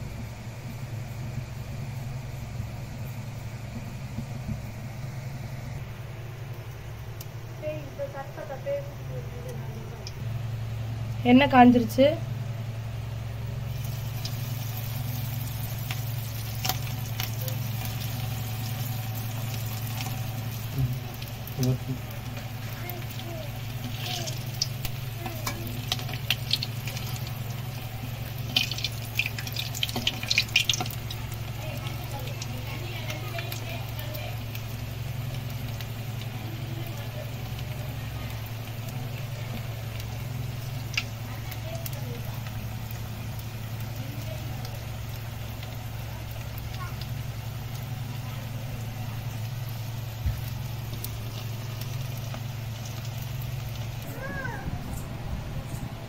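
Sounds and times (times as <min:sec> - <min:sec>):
oil bubbling and crackling: 0:00.0 - 0:56.0
steady low hum: 0:00.0 - 0:56.0.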